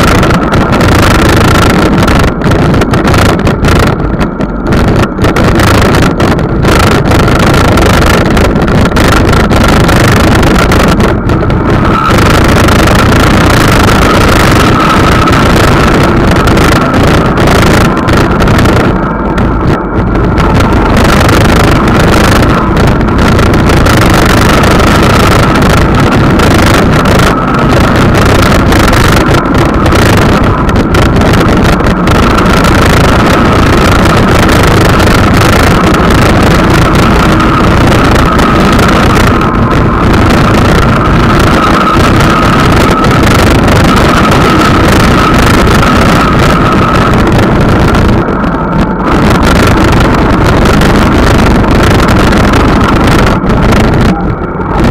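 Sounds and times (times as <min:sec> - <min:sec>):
steady high whine: 0:00.0 - 0:54.9
vehicle engine and tyre noise: 0:00.0 - 0:54.9.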